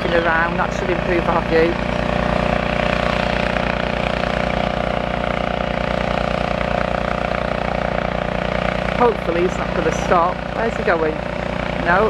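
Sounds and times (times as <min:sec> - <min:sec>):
excavator diesel engine throbbing: 0:00.0 - 0:12.0
steady machine whine: 0:00.0 - 0:12.0.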